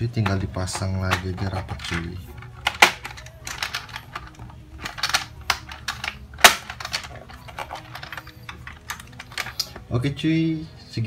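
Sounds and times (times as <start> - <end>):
plastic snapping: 0.2 - 9.9.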